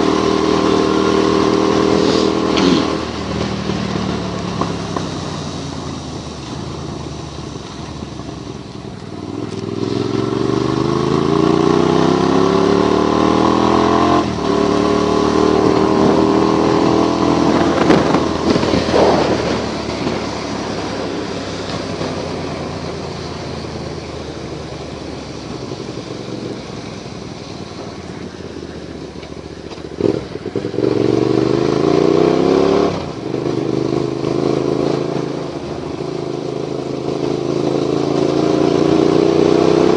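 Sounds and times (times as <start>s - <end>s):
motorcycle engine pulling away: 0.0s - 39.9s.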